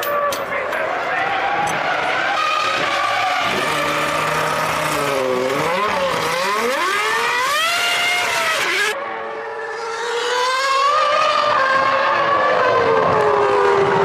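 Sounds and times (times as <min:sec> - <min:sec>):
racing car engine revving: 0:00.7 - 0:14.0.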